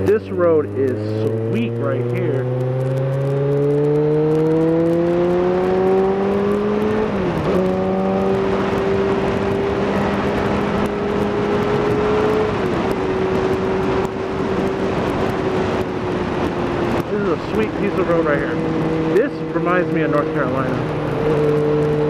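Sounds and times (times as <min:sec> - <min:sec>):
motorcycle engine accelerating: 0:00.0 - 0:22.0
wind rushing over microphone: 0:00.0 - 0:22.0.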